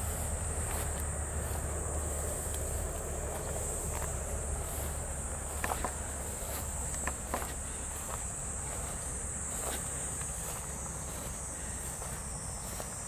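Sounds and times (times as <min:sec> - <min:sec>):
footsteps brushing through grass: 0:00.0 - 0:13.0
insects trilling: 0:00.0 - 0:13.0.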